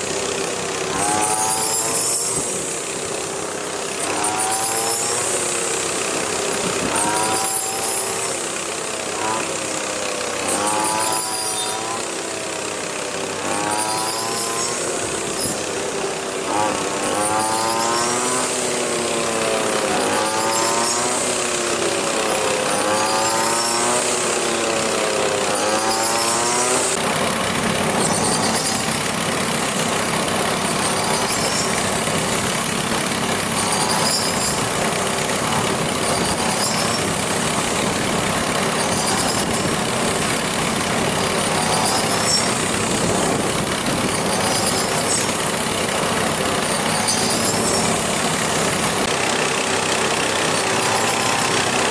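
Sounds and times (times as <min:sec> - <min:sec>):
motor engine running: 0:00.0 - 0:51.9.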